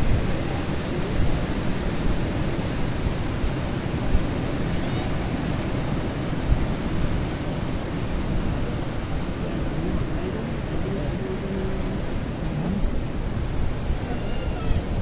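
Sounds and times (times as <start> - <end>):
surf breaking on beach: 0.0 - 15.0.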